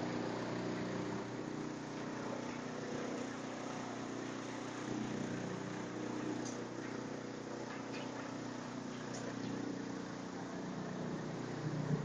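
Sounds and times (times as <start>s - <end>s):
wood chipper humming: 0.0s - 12.0s.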